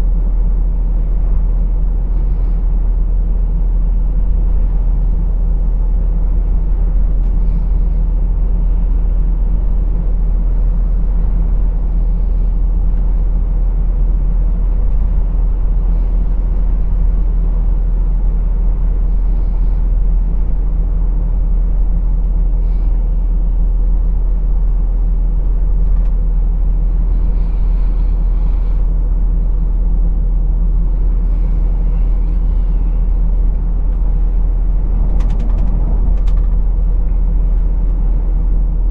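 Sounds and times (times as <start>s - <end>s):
truck diesel engine drone: 0.0s - 38.9s
road noise: 4.1s - 24.3s, 25.0s - 38.9s.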